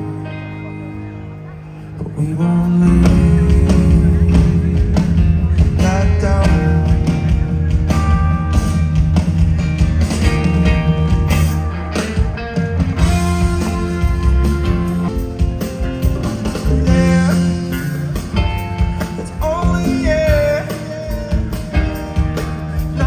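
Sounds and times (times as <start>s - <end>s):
bass guitar: 0.0s - 23.0s
drums: 0.0s - 23.0s
electric guitar: 0.0s - 23.0s.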